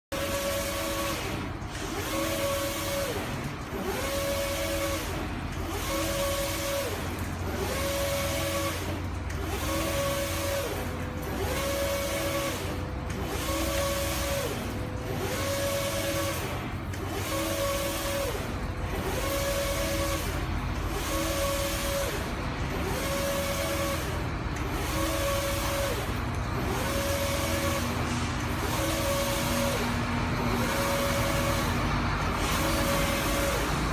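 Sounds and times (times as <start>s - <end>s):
printer carriage whine: 0.1s - 33.9s.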